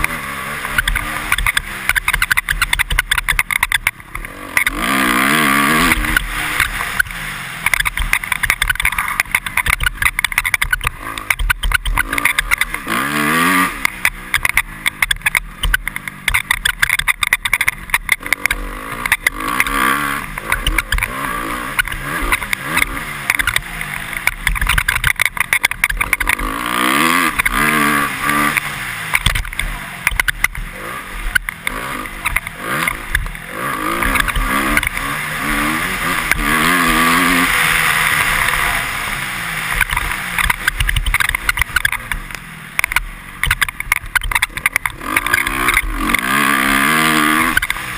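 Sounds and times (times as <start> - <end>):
motocross engine revving: 0.0 - 47.9
sharp knocks and crackles: 0.0 - 47.9.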